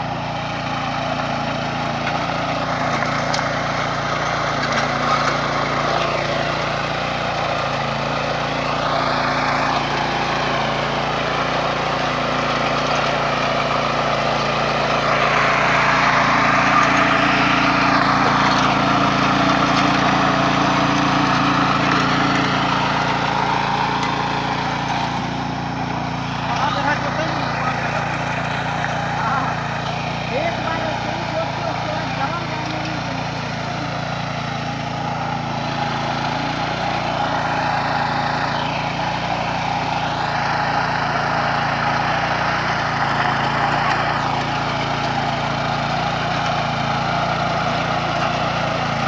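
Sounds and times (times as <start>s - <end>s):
tiller engine running: 0.0s - 49.0s
tines churning soil: 0.0s - 49.0s.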